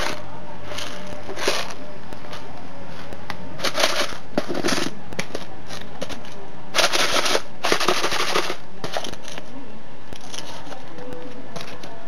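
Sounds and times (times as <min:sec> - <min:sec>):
plastic rustling and crackling: 0:00.0 - 0:12.0.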